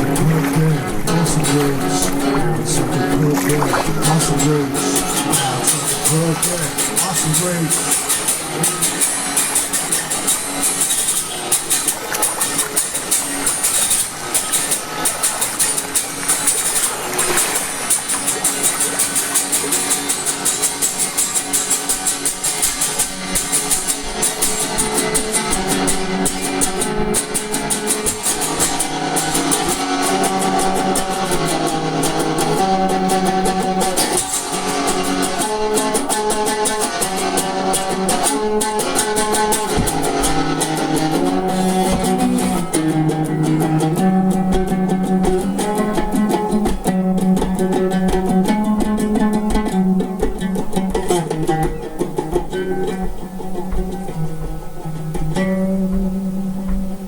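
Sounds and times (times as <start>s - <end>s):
guitar chords strummed: 0.0s - 57.0s.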